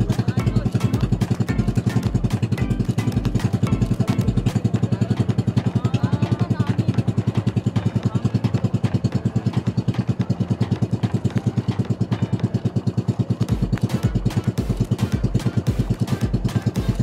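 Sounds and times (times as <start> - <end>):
boat engine chugging: 0.0 - 17.0
music with bass beat: 0.0 - 17.0.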